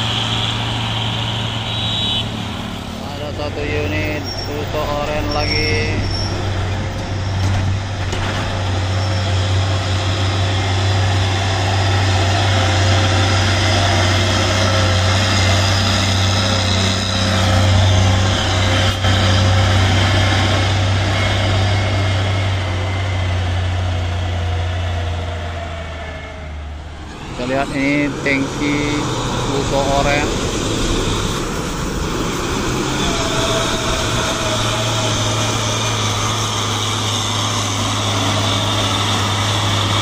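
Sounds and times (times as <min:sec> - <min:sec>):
diesel trucks driving past: 0:00.0 - 0:40.0.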